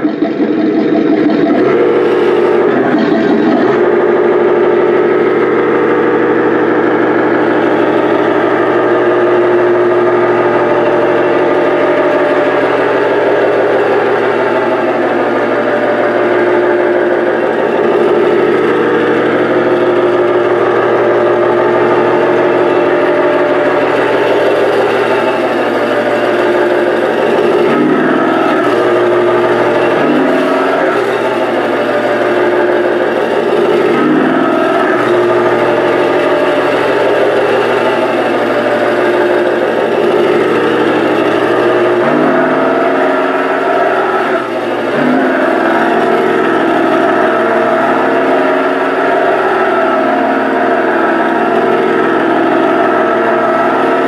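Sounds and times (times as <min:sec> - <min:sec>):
motorised toy truck rumble: 0:00.0 - 0:54.0.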